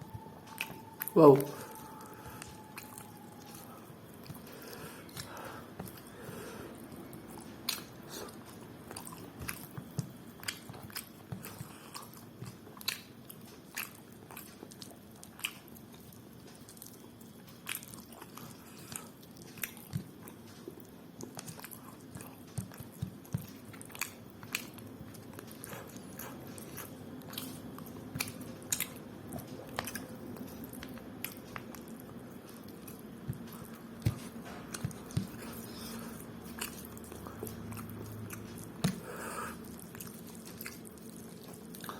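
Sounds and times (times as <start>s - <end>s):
faint steady hum: 0.0s - 41.9s
close chewing and mouth clicks: 0.1s - 41.9s.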